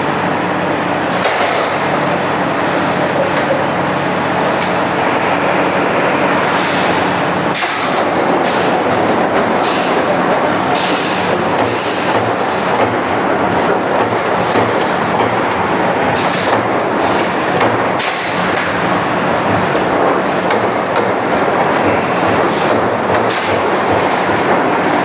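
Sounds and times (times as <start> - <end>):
punching machine humming and clattering: 0.0 - 25.0.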